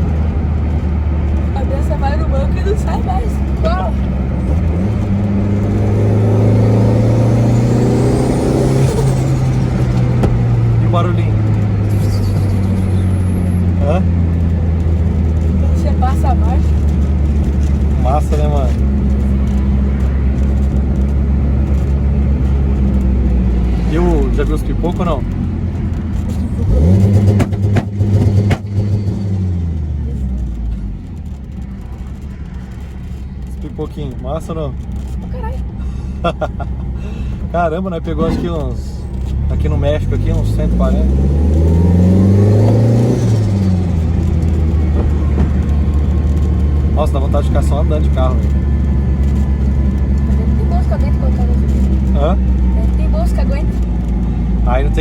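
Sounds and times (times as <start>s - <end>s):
car engine accelerating: 0.0s - 55.0s
exhaust pops: 0.0s - 55.0s.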